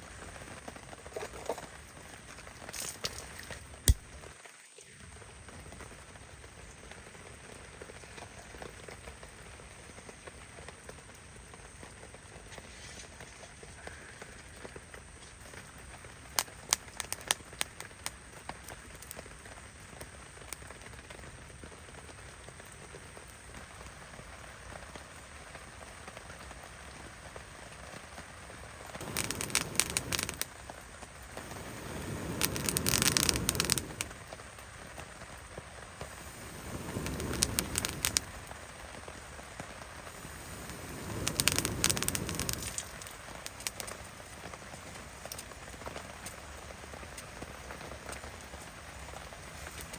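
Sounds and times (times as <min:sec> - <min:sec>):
rain hissing: 0:00.0 - 0:49.9
sharp crackles and pops: 0:00.0 - 0:49.9.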